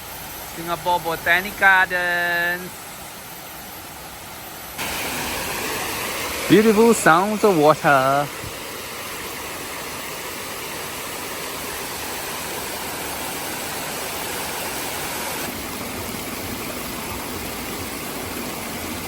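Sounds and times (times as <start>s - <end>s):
water feature rushing: 0.0s - 19.0s.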